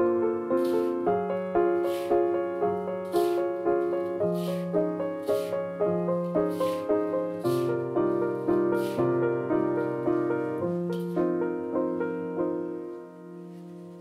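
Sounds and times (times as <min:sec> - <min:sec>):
piano playing: 0:00.0 - 0:14.0.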